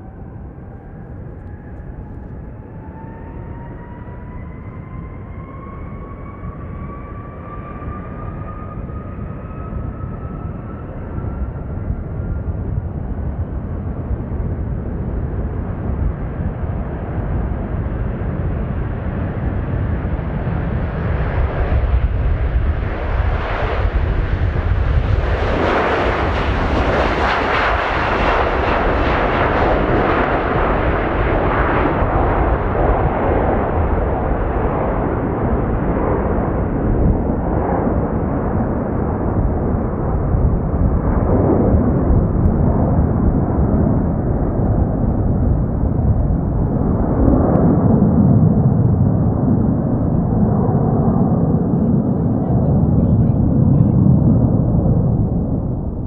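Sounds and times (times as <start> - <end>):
jet engines roaring on takeoff: 0.0 - 56.0.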